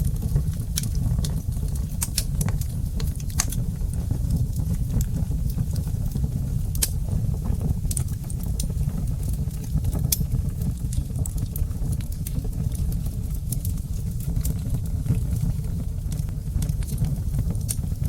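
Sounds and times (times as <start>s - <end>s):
wood fire crackling: 0.0s - 18.0s
sharp pops of fire: 0.1s - 18.0s.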